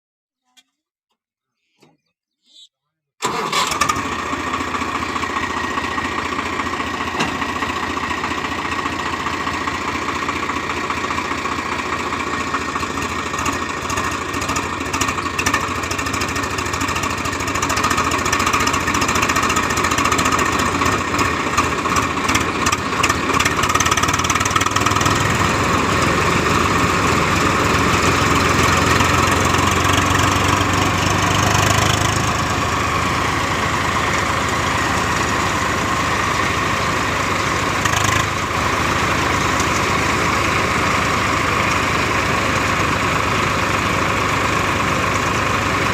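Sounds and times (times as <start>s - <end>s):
tractor engine running under load: 3.2s - 45.9s.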